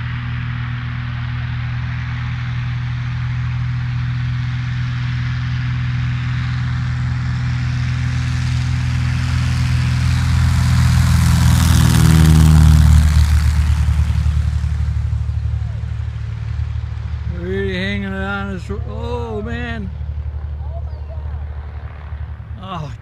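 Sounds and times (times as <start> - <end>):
propeller plane engine passing: 0.0 - 23.0.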